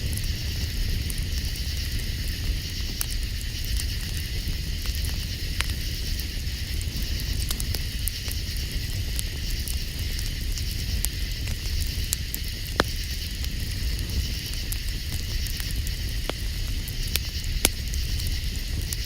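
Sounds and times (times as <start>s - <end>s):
campfire crackling and popping: 0.0s - 19.0s
night insects chorus: 0.0s - 19.0s.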